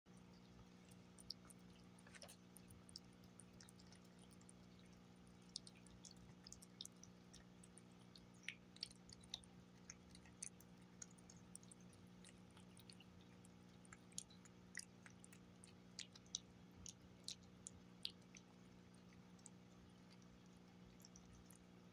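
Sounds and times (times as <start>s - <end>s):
cat chewing and licking: 0.1s - 21.9s.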